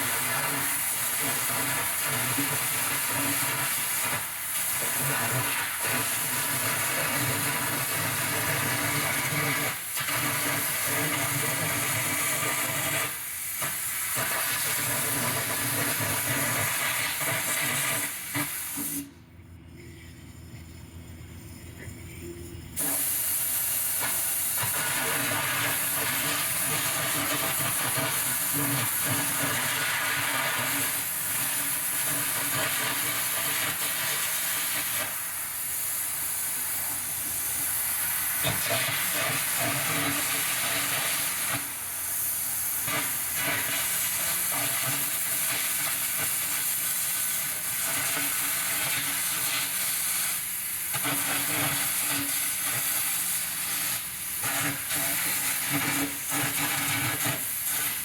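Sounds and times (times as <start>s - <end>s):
cutting torch hissing: 0.0s - 19.2s, 22.8s - 58.0s.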